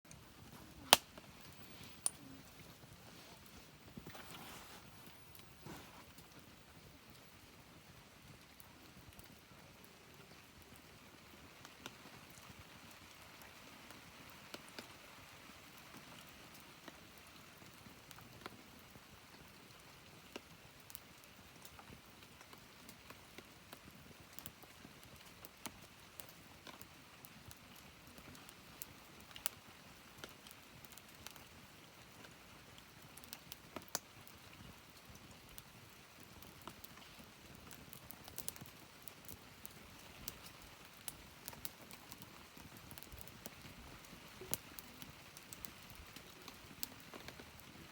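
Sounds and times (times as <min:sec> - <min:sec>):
campfire crackling and popping: 0:00.1 - 0:47.9
faint fire hiss: 0:00.1 - 0:47.9.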